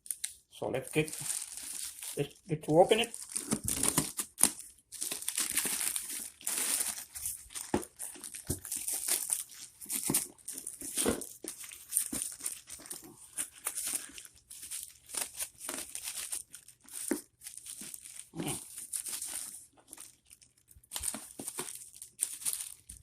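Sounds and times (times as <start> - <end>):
package tape crinkling and tearing: 0.0 - 23.0.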